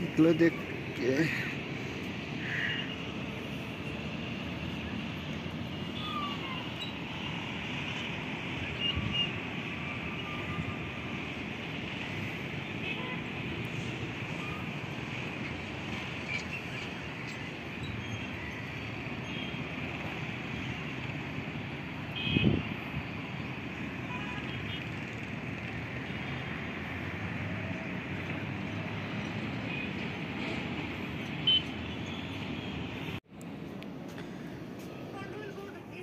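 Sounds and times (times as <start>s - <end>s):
distant road traffic: 0.0s - 36.0s.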